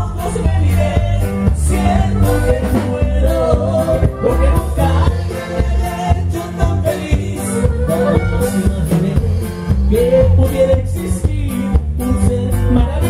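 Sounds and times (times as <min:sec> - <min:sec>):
drum kit: 0:00.0 - 0:13.0
twelve-string guitar: 0:00.0 - 0:13.0.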